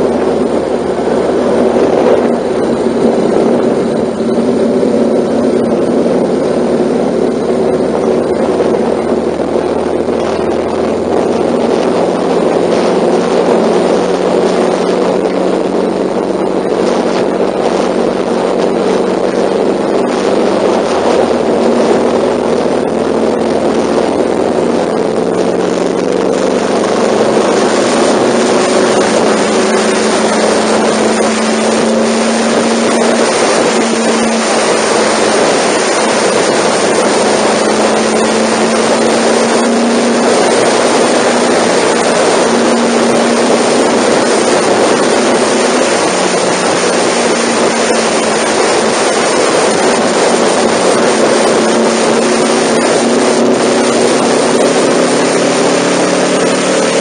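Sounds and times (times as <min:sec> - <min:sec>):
motorcycle engine cruising: 0:00.0 - 0:57.0
road noise: 0:00.0 - 0:57.0
wind rush: 0:00.0 - 0:57.0.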